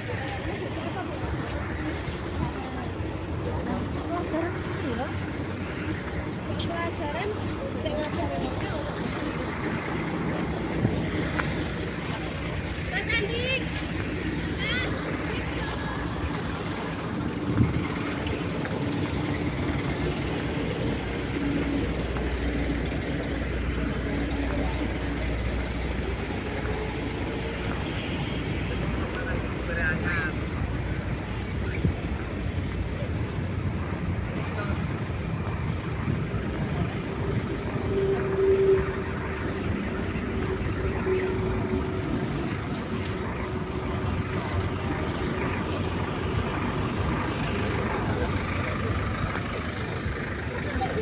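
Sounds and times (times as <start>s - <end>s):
bus engines rumbling: 0.0s - 51.0s
engine hum: 0.0s - 51.0s.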